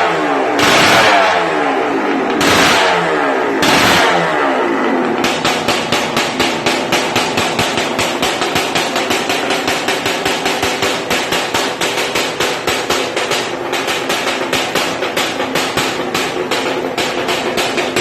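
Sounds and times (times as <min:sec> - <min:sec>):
motorcycle engine revving and popping: 0:00.0 - 0:18.0.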